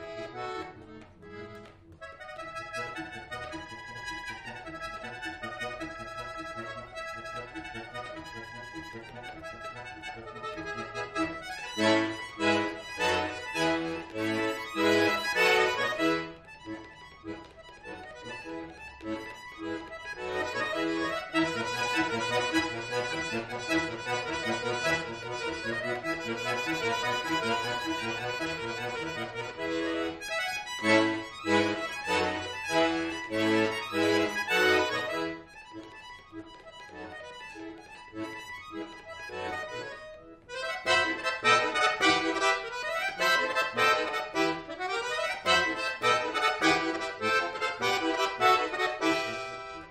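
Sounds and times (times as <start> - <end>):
button accordion playing: 0.0 - 49.9.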